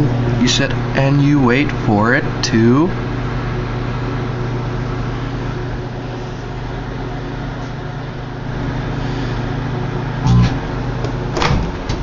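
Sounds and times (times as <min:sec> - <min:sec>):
cooling fan rushing: 0:00.0 - 0:12.0
microwave oven hum: 0:00.0 - 0:12.0.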